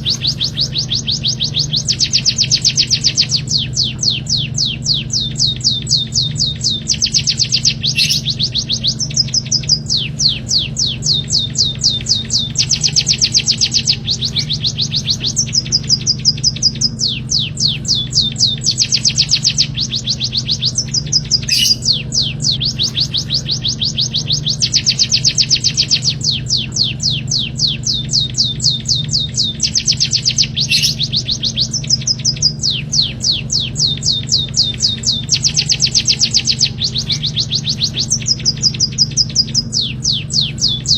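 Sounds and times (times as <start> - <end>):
low hum: 0.0 - 40.9
songbird trilling: 0.0 - 40.9.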